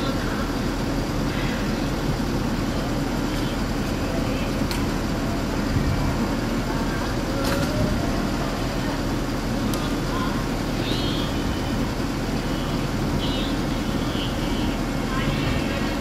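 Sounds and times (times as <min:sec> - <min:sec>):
trams rumbling on rails: 0:00.0 - 0:16.0.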